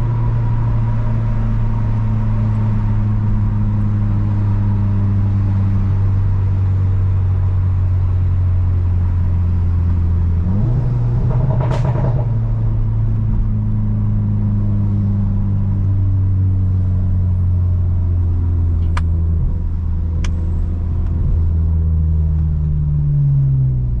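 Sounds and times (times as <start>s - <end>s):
car engine and exhaust droning: 0.0s - 24.0s.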